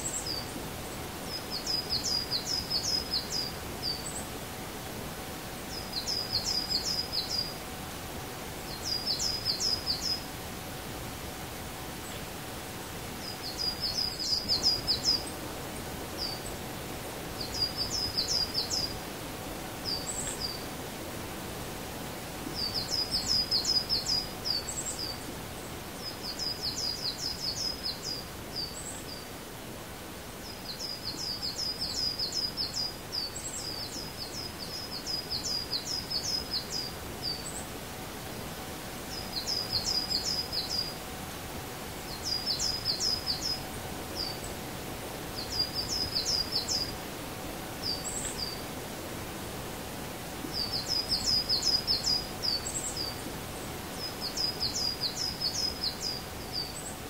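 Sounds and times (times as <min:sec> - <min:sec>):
songbird singing: 0:00.0 - 0:38.4, 0:39.0 - 0:49.2, 0:50.3 - 0:57.0
outdoor background hiss: 0:00.0 - 0:57.0.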